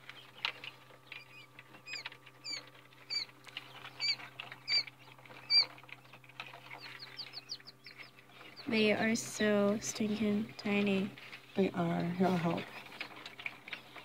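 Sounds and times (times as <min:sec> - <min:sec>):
chicks peeping: 0:00.0 - 0:14.0
steady low hum: 0:00.0 - 0:14.0.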